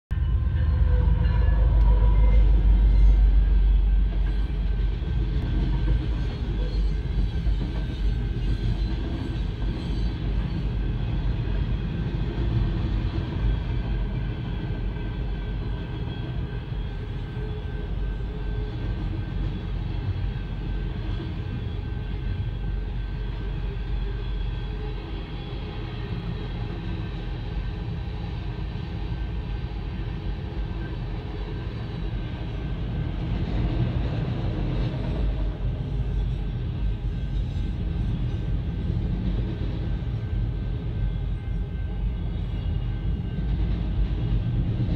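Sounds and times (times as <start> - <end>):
freight train rumbling past: 0.1 - 44.9.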